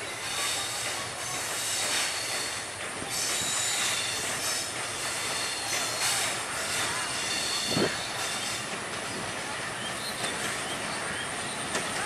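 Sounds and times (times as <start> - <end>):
locomotive rumble: 0.0 - 12.0
train wheels squealing: 0.0 - 12.0.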